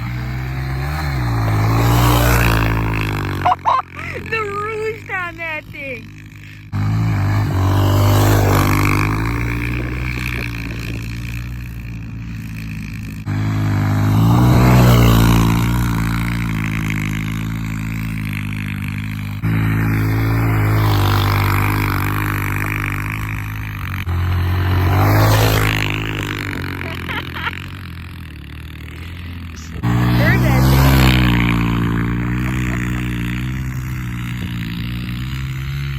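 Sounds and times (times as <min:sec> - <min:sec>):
mini bike engine revving: 0:00.0 - 0:35.9.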